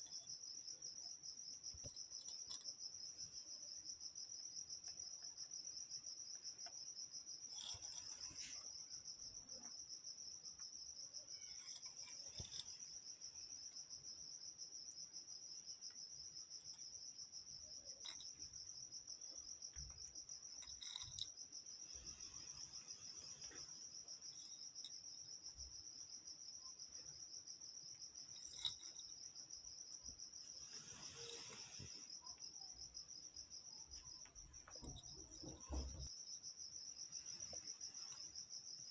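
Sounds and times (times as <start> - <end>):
cricket trilling: 0.0 - 38.9.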